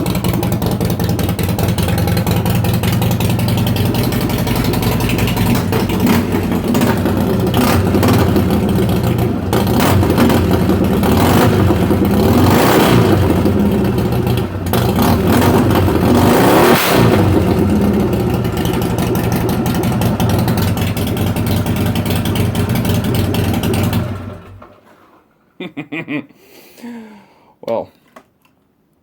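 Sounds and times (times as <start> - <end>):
loud motorcycle engine revving: 0.0 - 24.6.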